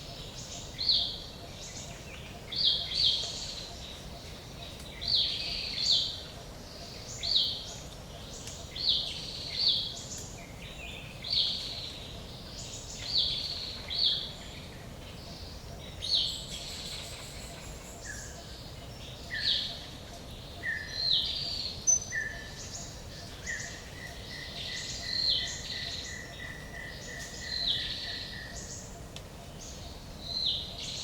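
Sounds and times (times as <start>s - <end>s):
bird chirps: 0.0s - 31.0s
faint background hiss: 0.0s - 31.0s.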